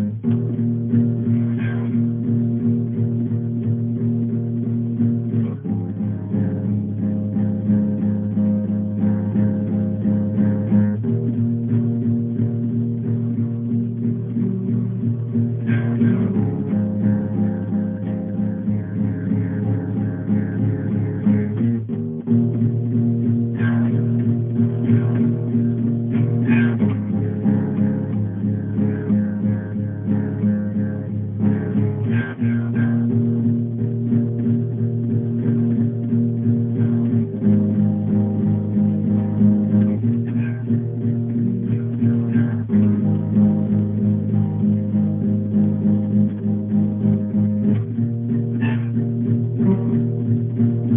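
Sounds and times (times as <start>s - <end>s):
guitar music: 0.0s - 50.9s.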